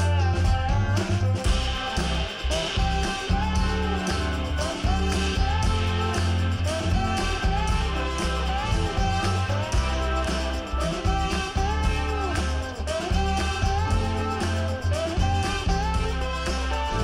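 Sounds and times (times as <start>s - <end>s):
guitar music: 0.0s - 17.0s
steady bass: 0.0s - 17.0s.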